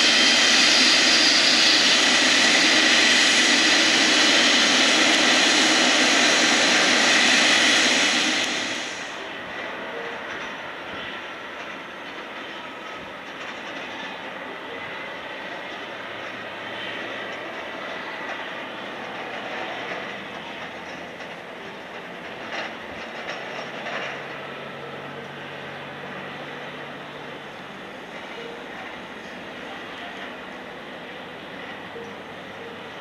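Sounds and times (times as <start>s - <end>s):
jet engine rush and whine: 0.0s - 33.0s.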